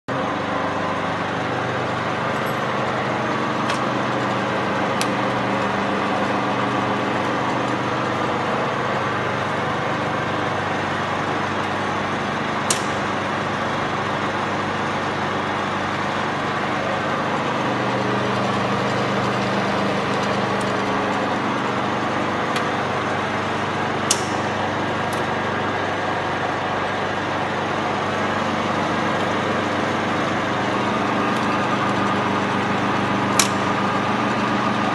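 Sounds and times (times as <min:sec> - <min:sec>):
milling machine motor humming: 0:00.1 - 0:34.9.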